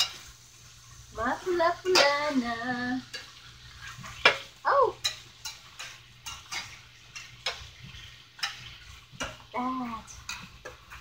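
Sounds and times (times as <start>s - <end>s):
spatula scraping metal skillet: 0.0s - 11.0s.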